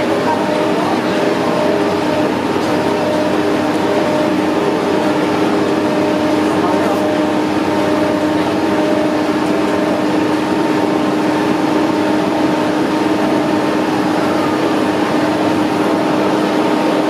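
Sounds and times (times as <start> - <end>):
winch humming: 0.0 - 17.0.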